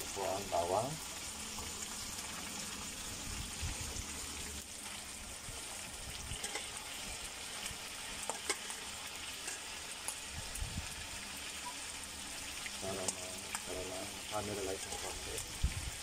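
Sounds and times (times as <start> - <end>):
meat frying in wok: 0.0 - 16.0.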